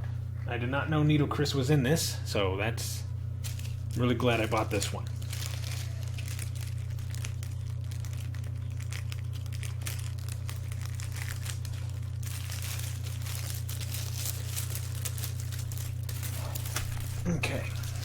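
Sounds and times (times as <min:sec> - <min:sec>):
steady low hum: 0:00.0 - 0:18.0
paper rustling and crinkling: 0:03.4 - 0:18.0.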